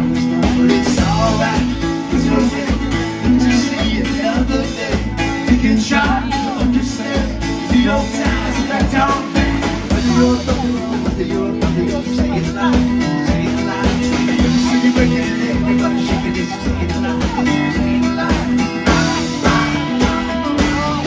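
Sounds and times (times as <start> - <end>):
drum kit beat: 0.0 - 21.0
live rock band playing: 0.0 - 21.0
person singing: 0.0 - 21.0.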